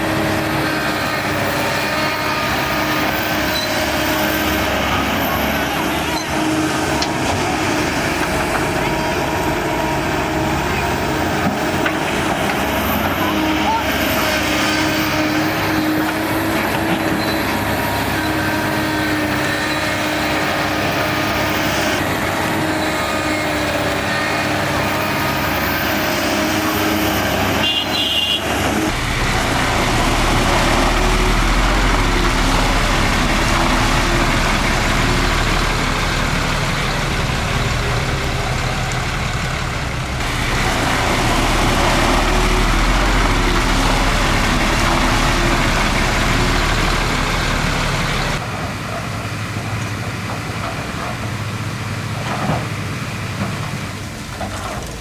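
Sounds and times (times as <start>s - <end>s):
diesel machinery engine: 0.0s - 55.0s.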